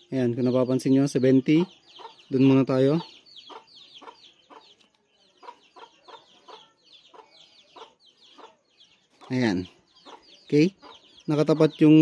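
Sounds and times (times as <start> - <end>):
chickens chirping: 0.0 - 12.0
chickens clucking: 0.3 - 12.0.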